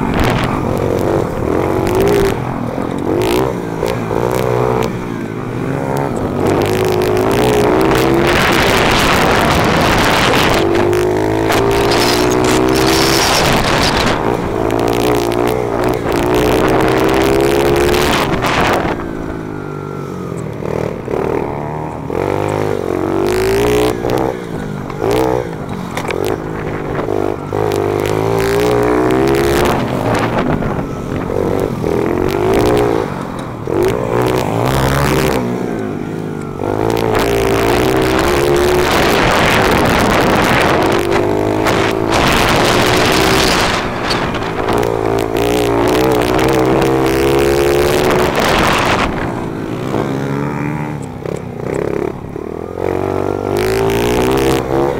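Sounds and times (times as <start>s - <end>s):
wind rush on microphone: 0.0s - 5.4s, 6.0s - 19.6s, 23.3s - 35.5s, 36.5s - 52.4s
motorbike engine revving: 0.0s - 54.9s.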